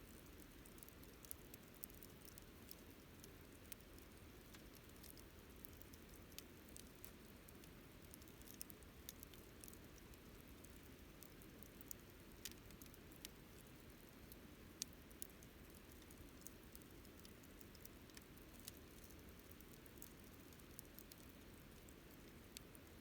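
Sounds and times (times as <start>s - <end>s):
campfire crackling: 0.1s - 23.0s.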